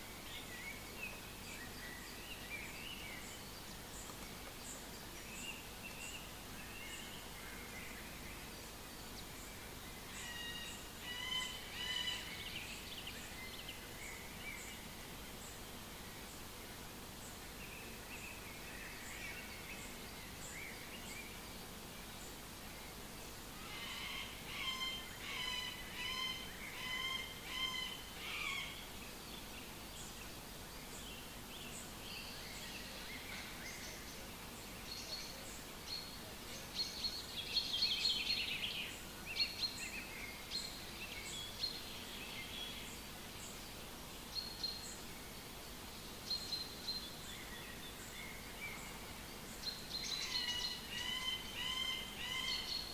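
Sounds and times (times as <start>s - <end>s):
background hiss: 0.0s - 52.9s
songbirds singing: 0.0s - 52.9s.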